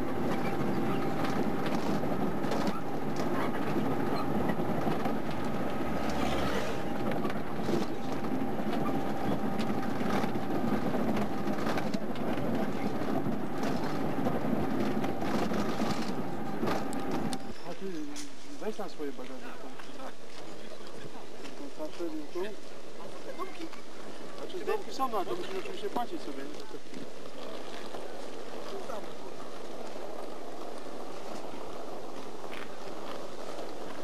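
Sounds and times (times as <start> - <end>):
bus engine and road noise: 0.0 - 34.0.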